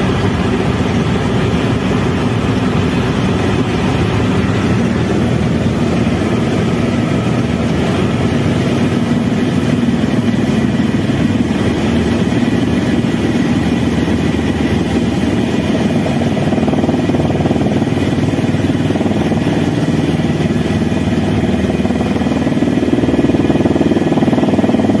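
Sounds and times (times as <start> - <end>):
faint turbine whine: 0.0 - 25.0
helicopter rotor noise: 0.0 - 25.0.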